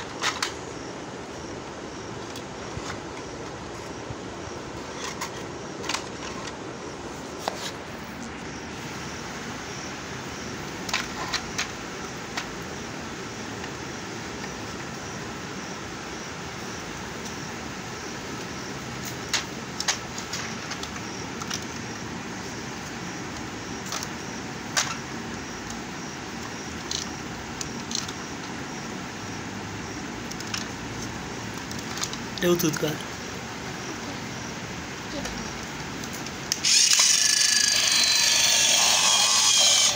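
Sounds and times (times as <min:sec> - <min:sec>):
background hum: 0:00.0 - 0:39.9.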